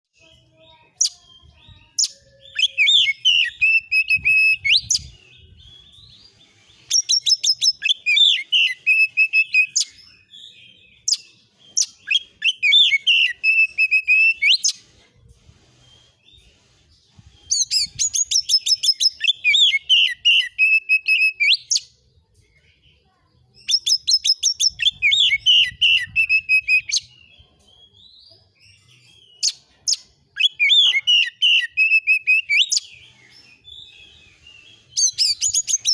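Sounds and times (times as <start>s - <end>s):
bird singing with whistled phrases: 0.1s - 14.8s, 17.1s - 35.9s.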